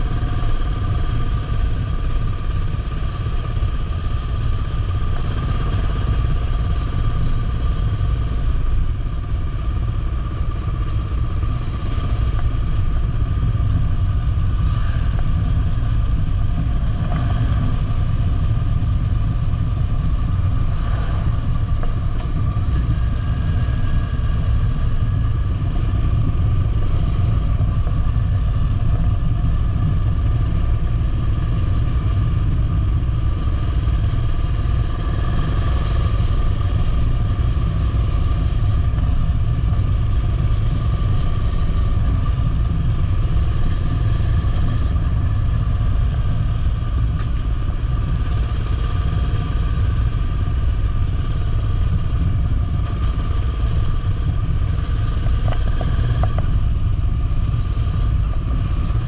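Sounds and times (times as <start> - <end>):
motorcycle engine rumble: 0.0 - 59.0.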